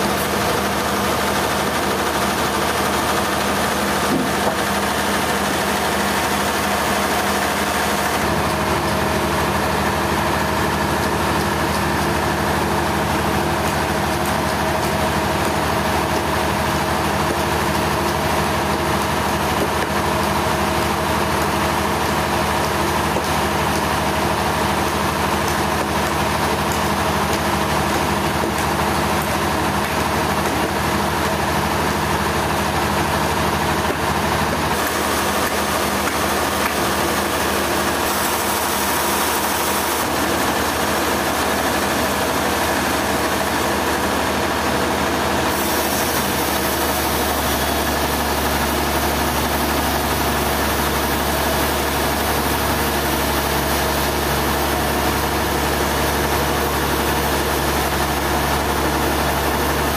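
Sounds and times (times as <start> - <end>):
machinery engine running: 0.0 - 59.9.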